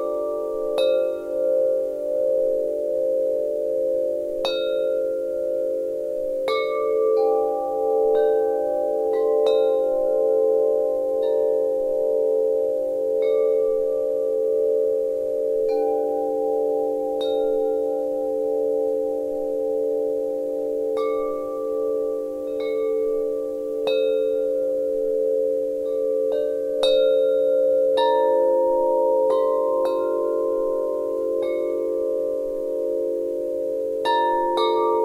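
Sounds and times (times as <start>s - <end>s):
wind chimes ringing: 0.0s - 2.8s, 6.4s - 35.0s.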